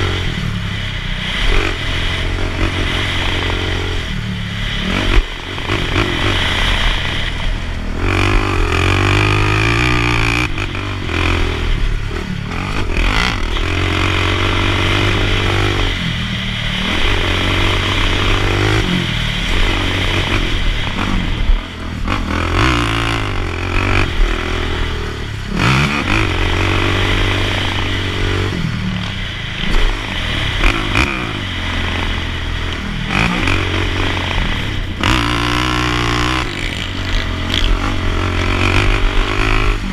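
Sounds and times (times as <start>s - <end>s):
quad engine revving hard: 0.0s - 39.9s.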